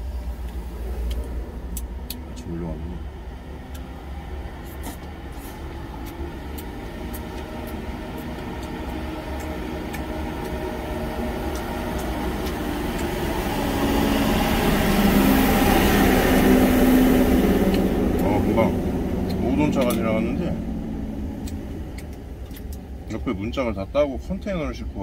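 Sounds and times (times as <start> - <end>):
heavy truck passing: 0.0 - 23.6.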